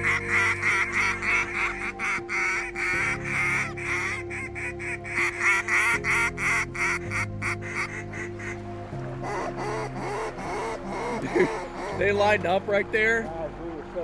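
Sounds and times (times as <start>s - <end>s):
waterfowl call honking: 0.0s - 12.9s.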